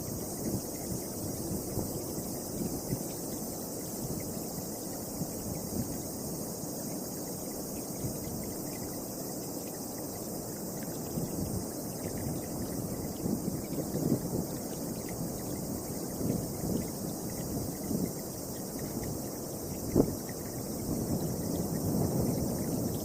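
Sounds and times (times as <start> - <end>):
wind buffeting microphone: 0.0 - 6.5, 10.7 - 23.0
insects chirring: 0.0 - 23.0.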